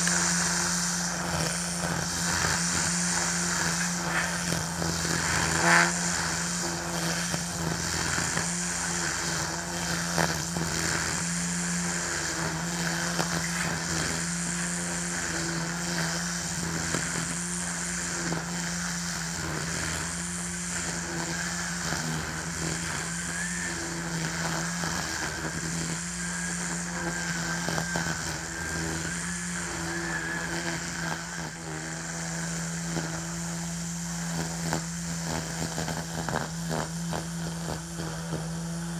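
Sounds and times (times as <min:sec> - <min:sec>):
string trimmer whirring: 0:00.0 - 0:38.9.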